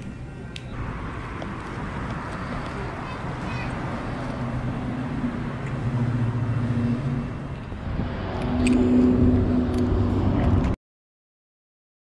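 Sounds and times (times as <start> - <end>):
car engine driving by: 0.8 - 10.8.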